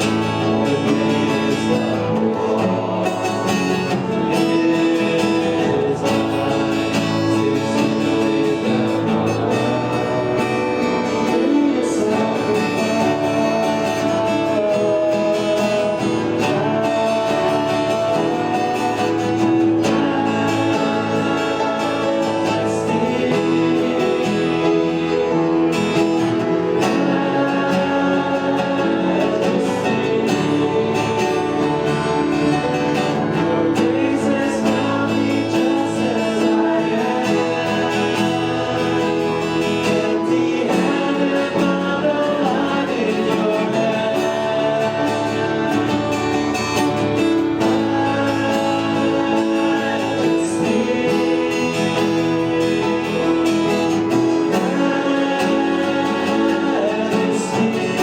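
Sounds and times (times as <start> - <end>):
person singing: 0.0 - 58.0
strummed acoustic guitar: 0.0 - 58.0.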